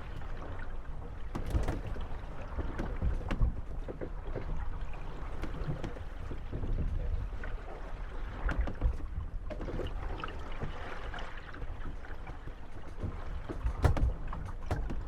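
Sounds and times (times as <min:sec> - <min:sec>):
boat hulls knocking and creaking: 0:00.0 - 0:15.0
water lapping: 0:00.0 - 0:15.0.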